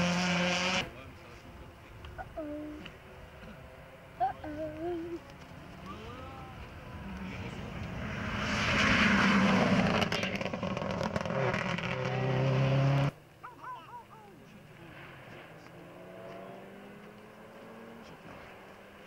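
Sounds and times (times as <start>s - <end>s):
rally car engine passing: 0.0s - 13.2s, 14.5s - 19.0s
engine crackles and pops: 1.0s - 3.6s, 4.4s - 8.0s, 8.7s - 19.0s.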